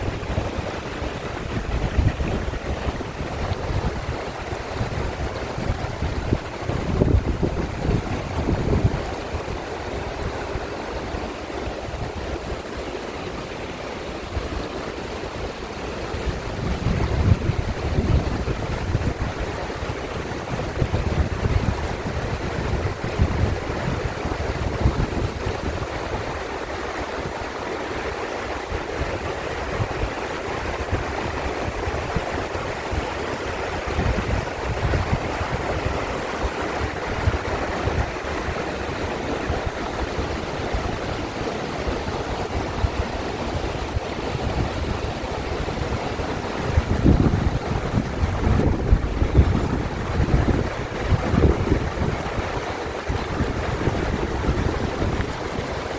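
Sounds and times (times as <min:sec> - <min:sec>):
stream rushing: 0:00.0 - 0:55.9
wind buffeting microphone: 0:00.0 - 0:55.9.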